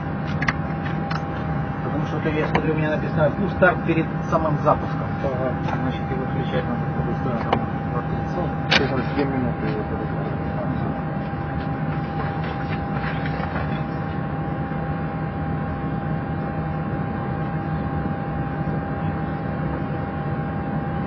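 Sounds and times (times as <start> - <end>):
air-conditioning and equipment fans humming: 0.0 - 21.0
thin whine: 0.0 - 21.0.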